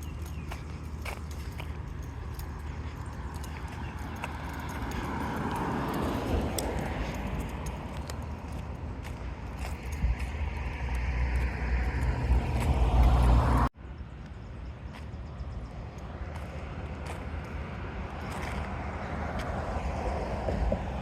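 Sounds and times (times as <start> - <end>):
outdoor background noise: 0.0 - 21.0
vehicle passing rumble: 0.0 - 21.0.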